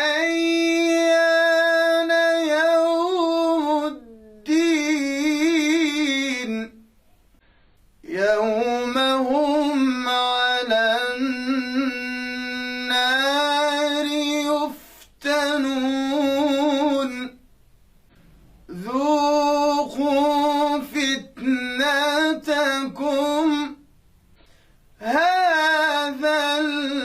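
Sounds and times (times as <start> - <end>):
man chanting melodically: 0.0 - 6.7, 8.0 - 17.4, 18.7 - 23.8, 25.0 - 27.0.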